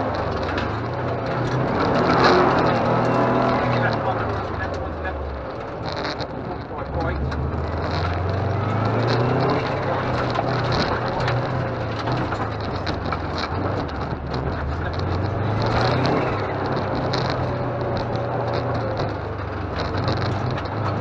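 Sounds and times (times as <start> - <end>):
car engine revving: 0.0 - 21.0
road noise: 0.0 - 21.0
small clicks and rattles: 0.0 - 21.0.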